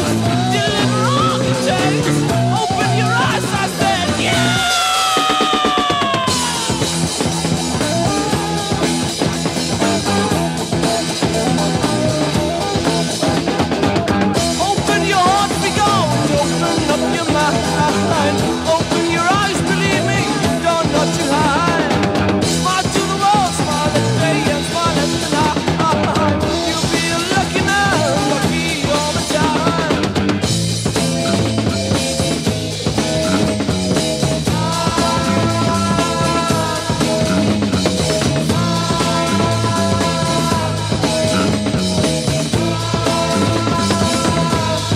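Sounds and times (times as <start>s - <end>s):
drum kit beat: 0.0s - 44.9s
rock song playing: 0.0s - 44.9s.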